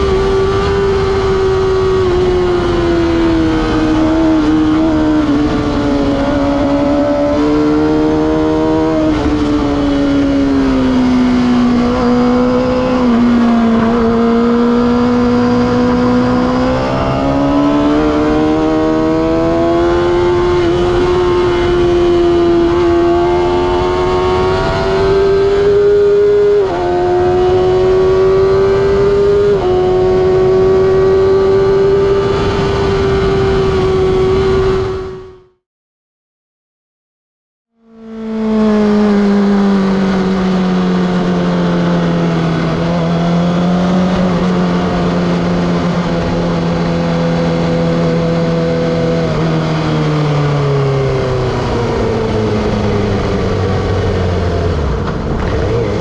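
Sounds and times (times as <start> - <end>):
motorcycle engine revving high: 0.0 - 35.6, 37.7 - 56.0.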